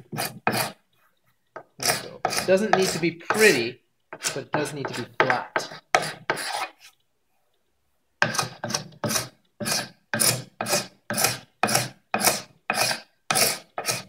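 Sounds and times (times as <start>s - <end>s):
scraper scraping wood: 0.0s - 7.0s, 8.2s - 14.0s.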